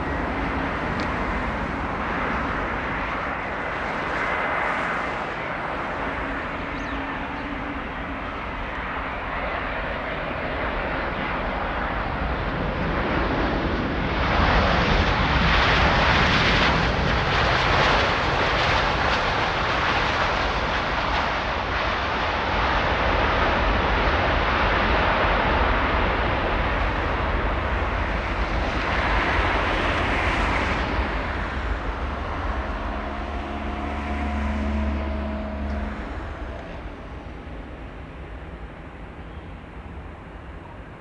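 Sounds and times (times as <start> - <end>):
airliner engines rushing: 0.0 - 41.0.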